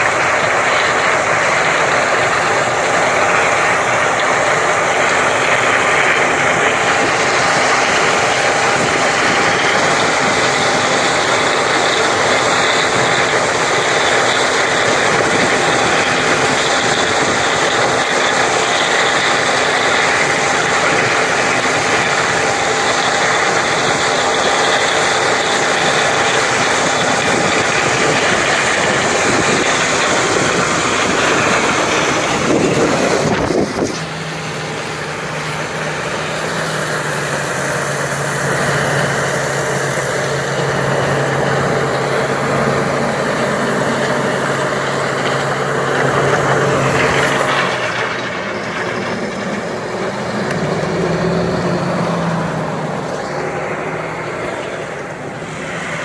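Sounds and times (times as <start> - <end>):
combine harvester engine: 0.0 - 56.0
tractor engine: 0.0 - 56.0.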